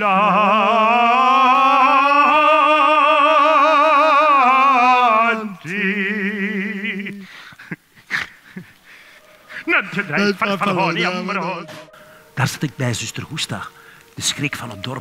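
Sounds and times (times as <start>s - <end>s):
person singing opera: 0.0s - 7.3s, 9.2s - 15.0s.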